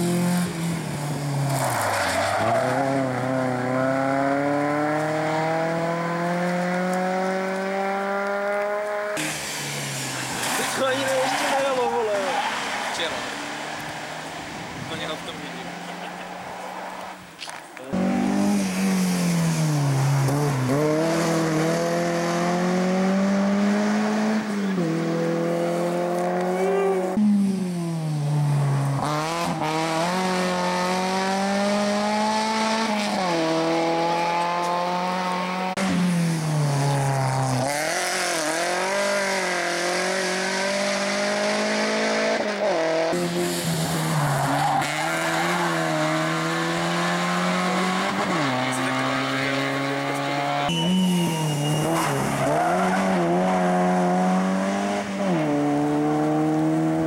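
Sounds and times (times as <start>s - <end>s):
rally car engines revving hard: 0.0s - 17.2s, 17.9s - 57.0s.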